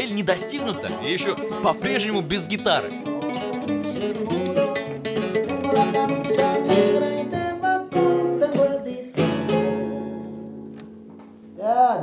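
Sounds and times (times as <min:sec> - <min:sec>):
two acoustic guitars playing: 0:00.0 - 0:12.0.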